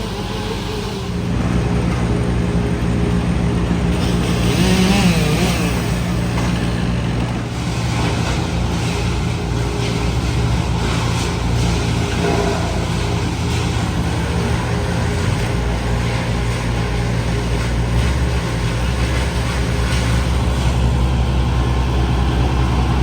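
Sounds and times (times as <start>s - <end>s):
large engine humming: 0.0s - 23.0s.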